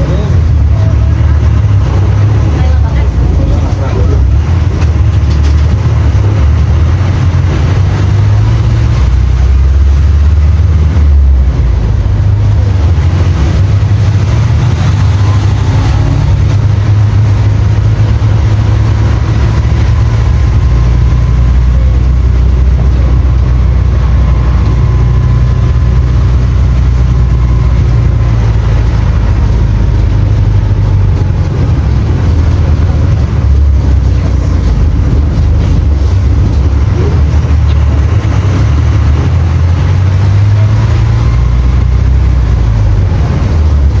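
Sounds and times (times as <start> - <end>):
bus diesel engine running: 0.0 - 44.0
faint whine: 0.0 - 44.0.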